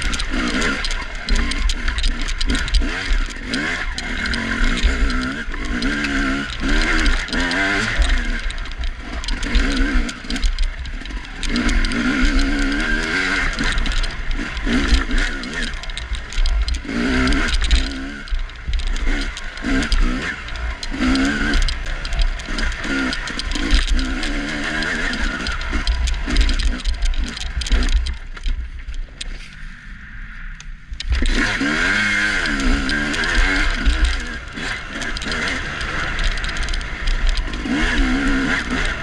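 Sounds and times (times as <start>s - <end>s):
dirt bike engine revving: 0.0s - 28.5s, 29.2s - 39.0s.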